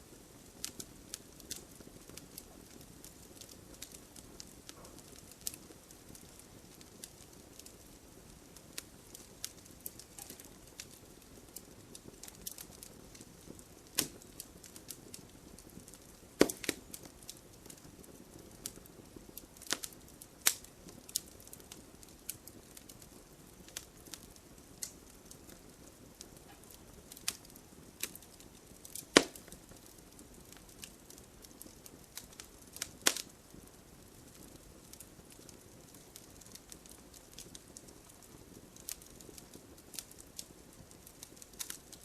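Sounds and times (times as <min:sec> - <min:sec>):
low rush of flame: 0:00.0 - 0:42.0
wood fire crackling and popping: 0:00.0 - 0:42.0.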